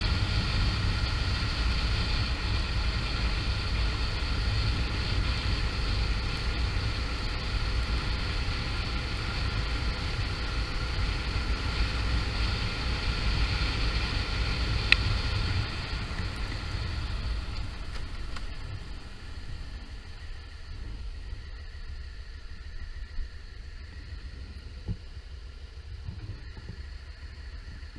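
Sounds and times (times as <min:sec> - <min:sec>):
motorcycle engine rumble: 0:00.0 - 0:27.9
wind noise: 0:00.0 - 0:27.9.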